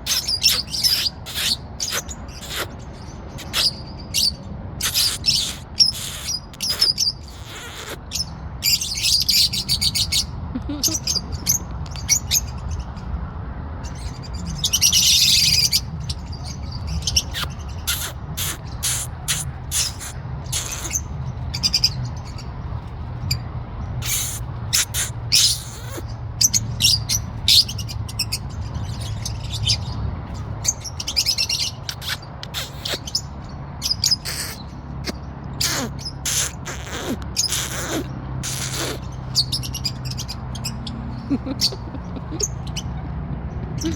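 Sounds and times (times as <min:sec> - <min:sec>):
parrot chirping: 0:00.0 - 0:13.1, 0:13.8 - 0:43.0.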